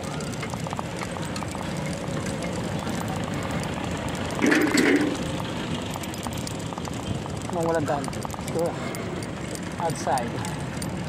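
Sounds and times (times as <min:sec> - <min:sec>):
bicycle rolling over paving stones: 0:00.0 - 0:11.0.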